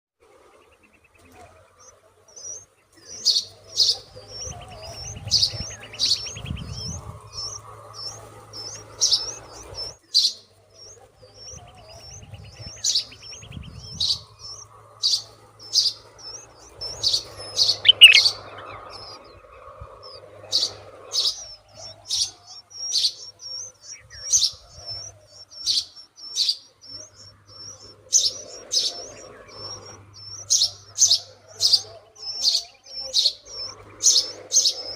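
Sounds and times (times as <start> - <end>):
small birds chirping: 0.2 - 34.9
rising bird call: 0.6 - 34.9.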